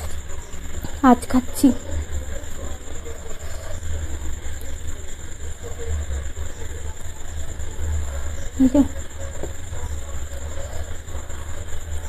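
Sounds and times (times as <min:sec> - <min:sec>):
faint high steady tone: 0:00.0 - 0:12.0.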